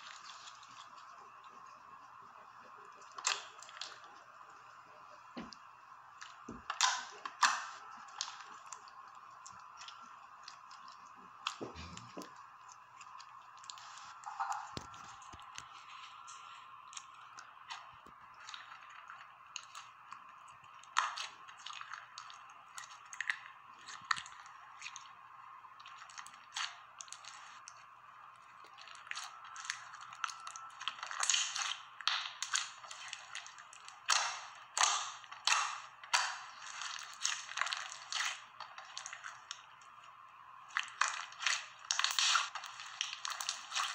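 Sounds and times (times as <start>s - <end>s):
slime wet crackles and clicks: 3.0s - 4.1s, 5.4s - 12.0s, 16.3s - 43.9s.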